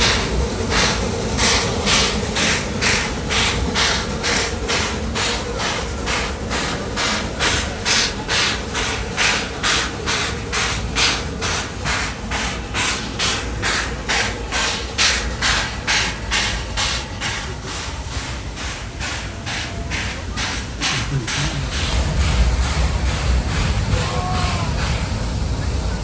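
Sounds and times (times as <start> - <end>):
steam locomotive chuffing: 0.0 - 26.0
train rumble: 0.0 - 26.0.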